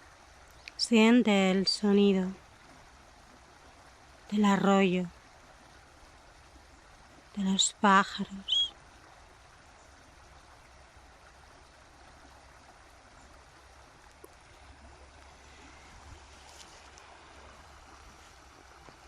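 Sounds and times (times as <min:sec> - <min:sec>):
faint stream babbling: 0:00.0 - 0:19.0.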